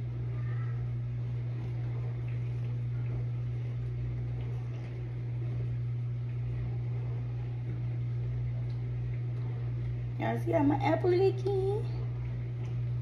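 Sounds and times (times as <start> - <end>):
vent fan humming: 0.0 - 13.0.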